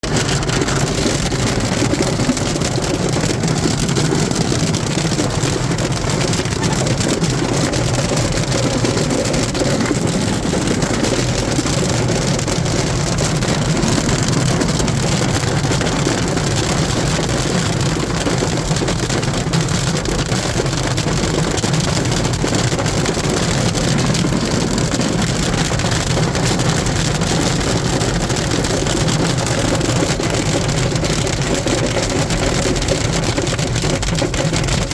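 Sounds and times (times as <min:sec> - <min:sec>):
hail striking hard surfaces: 0:00.0 - 0:34.9
rain: 0:00.0 - 0:34.9.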